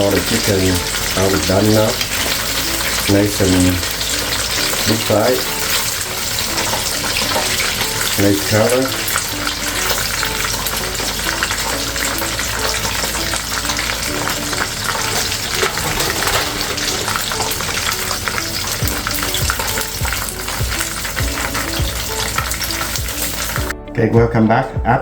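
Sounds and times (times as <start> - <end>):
chicken deep-frying in oil: 0.0 - 23.8.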